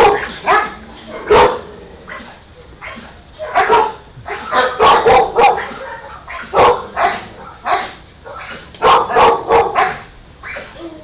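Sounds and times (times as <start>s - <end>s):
dog barking: 0.0s - 10.9s.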